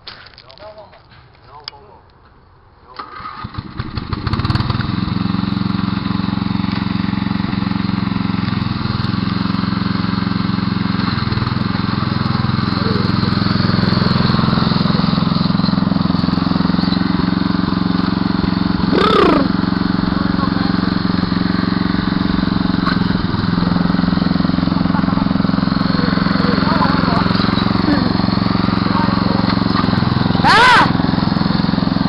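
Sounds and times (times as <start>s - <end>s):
riding mower engine running: 3.0s - 32.0s.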